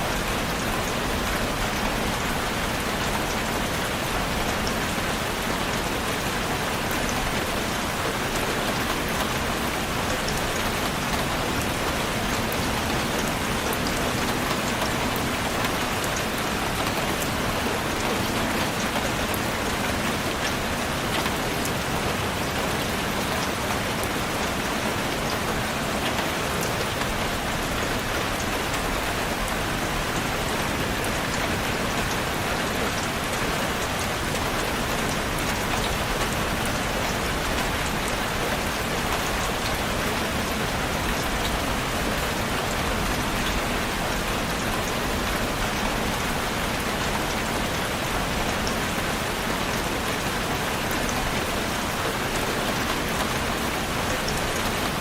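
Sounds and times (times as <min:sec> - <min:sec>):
rain falling on a surface: 0:00.0 - 0:55.0.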